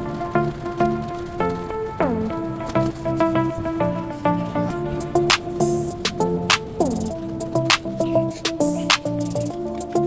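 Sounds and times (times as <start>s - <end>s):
falling pitch slide: 0.0s - 10.0s
melodic music over a beat: 0.0s - 10.0s.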